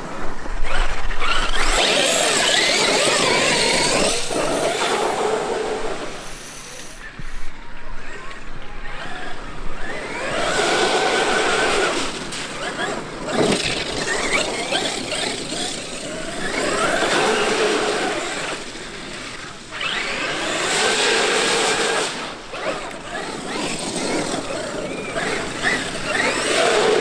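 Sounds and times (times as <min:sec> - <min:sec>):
electric motor whining: 0:00.5 - 0:07.5, 0:08.3 - 0:27.0.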